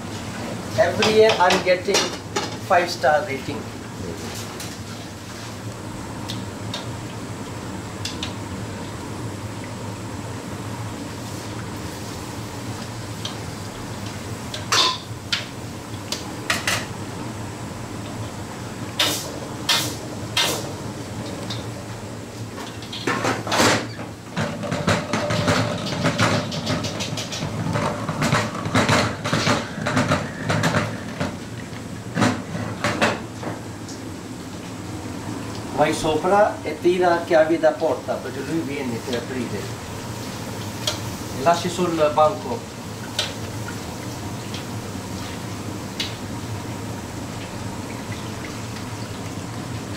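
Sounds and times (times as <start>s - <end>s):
low kitchen hum: 0.0s - 49.9s.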